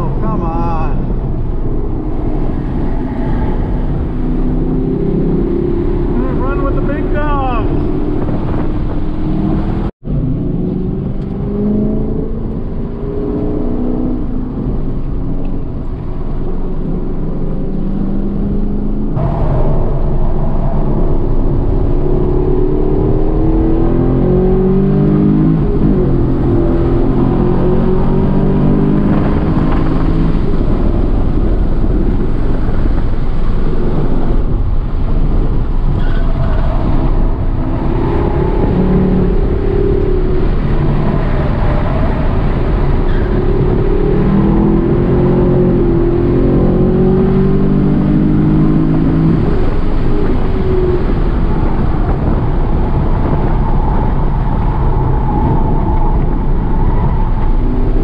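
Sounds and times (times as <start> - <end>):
car engine revving: 0.0 - 58.0
tyre and wind noise: 0.0 - 58.0.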